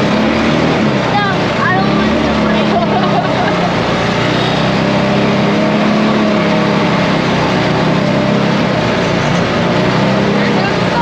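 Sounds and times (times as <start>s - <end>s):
atv engine running: 0.0s - 11.0s
constant rushing noise: 0.0s - 11.0s.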